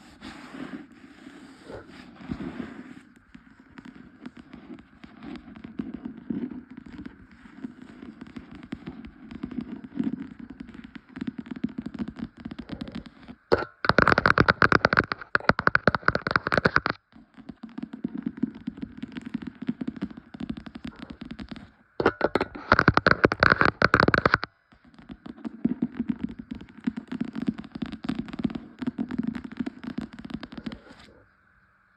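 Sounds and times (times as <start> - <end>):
scratching on a book: 0.0 - 31.2
rapid tapping on a book: 0.2 - 31.2.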